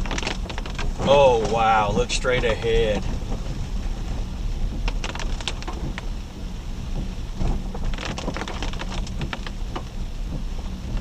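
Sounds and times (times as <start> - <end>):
vehicle low rumble: 0.0 - 11.0.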